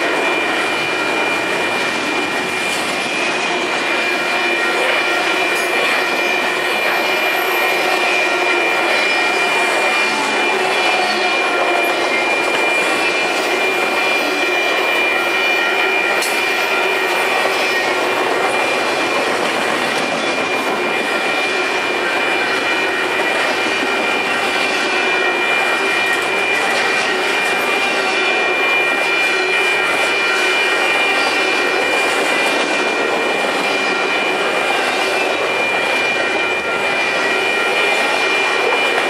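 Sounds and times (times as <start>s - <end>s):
steel wheels on rails: 0.0s - 39.0s.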